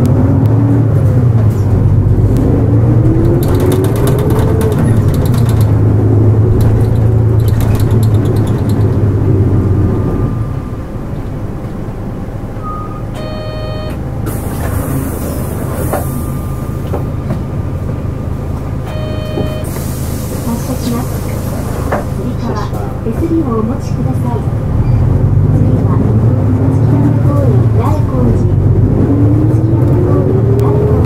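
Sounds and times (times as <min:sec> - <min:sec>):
bus diesel engine: 0:00.0 - 0:31.0.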